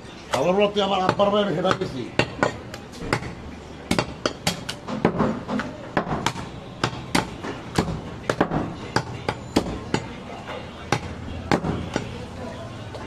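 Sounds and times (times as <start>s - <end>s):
knife chopping meat and bone: 0.3s - 12.2s.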